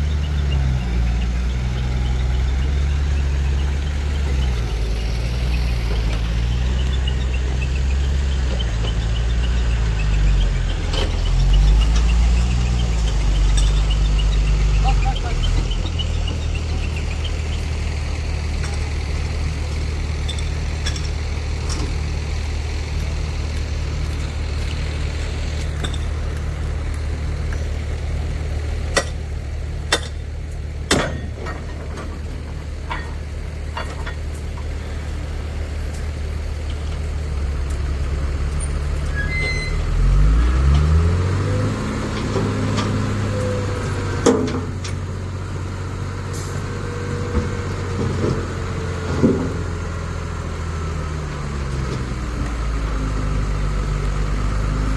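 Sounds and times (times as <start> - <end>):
diesel engine idling and revving: 0.0 - 54.9.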